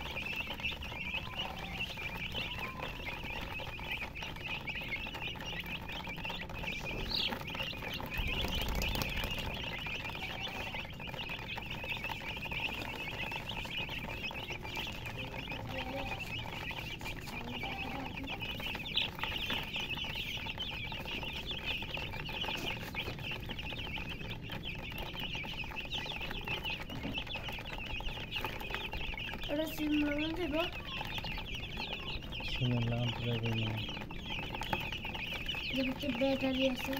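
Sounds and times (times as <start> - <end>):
baby chicks peeping: 0.0 - 36.9.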